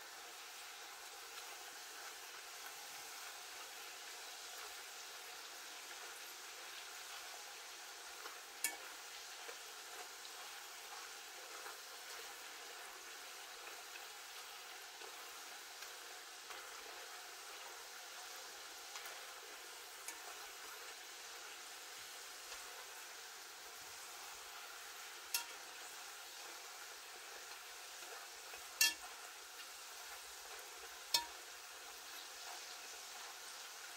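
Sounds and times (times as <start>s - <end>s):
oil sizzling with crackles: 0.0s - 33.9s.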